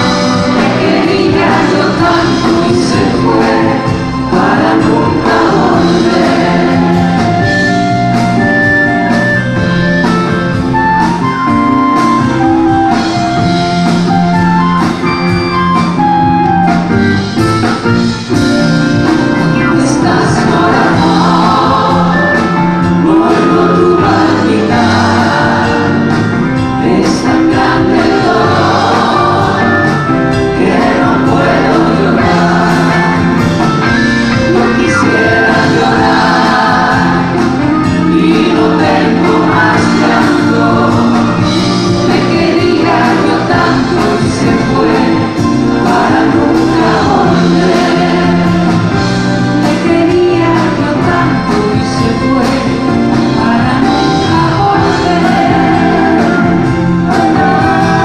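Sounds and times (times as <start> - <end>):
group singing in harmony: 0.0 - 8.7, 17.6 - 58.0
live band with drums and keyboards: 0.0 - 58.0.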